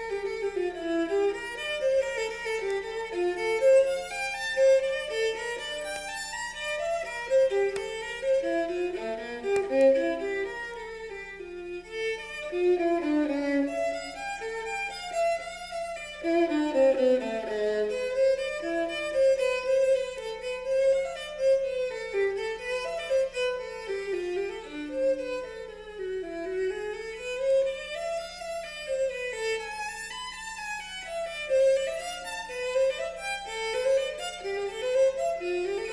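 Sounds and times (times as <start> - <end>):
violin music over a loudspeaker: 0.0 - 35.9.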